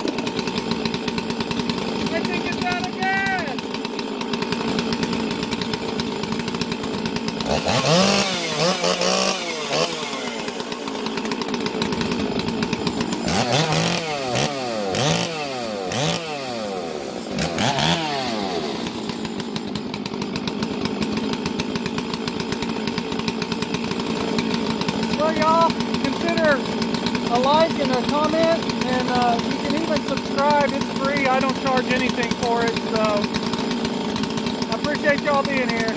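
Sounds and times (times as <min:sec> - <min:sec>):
chainsaw idling and revving: 0:00.0 - 0:35.9.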